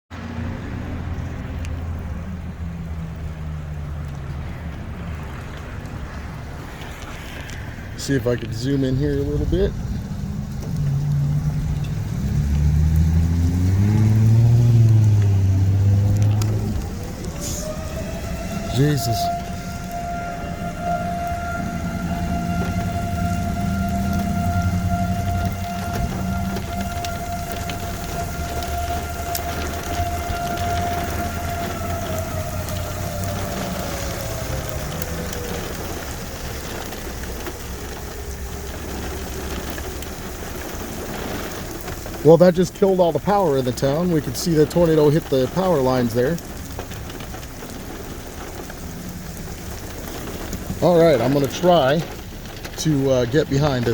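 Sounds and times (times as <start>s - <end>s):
rain falling: 0.1s - 53.9s
vehicle engine humming: 0.1s - 53.9s
warning siren: 5.4s - 53.9s.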